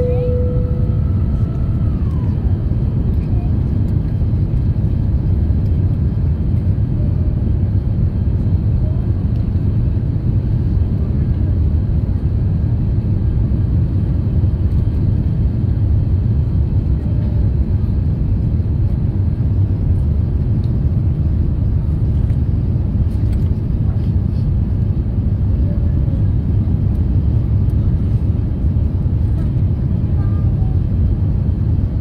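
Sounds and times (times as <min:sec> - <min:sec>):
jet engine noise: 0:00.0 - 0:32.0.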